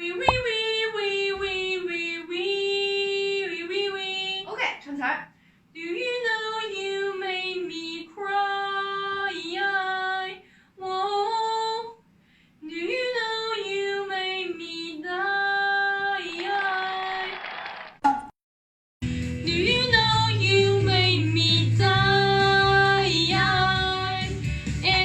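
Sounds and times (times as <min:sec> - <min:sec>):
woman singing unaccompanied: 0:00.0 - 0:04.5, 0:05.8 - 0:12.0, 0:12.6 - 0:17.3, 0:19.5 - 0:25.0.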